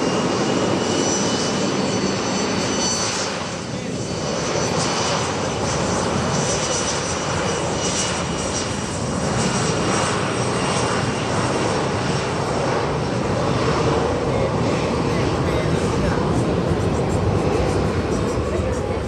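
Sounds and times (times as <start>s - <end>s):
airplane engines running: 0.0s - 19.0s.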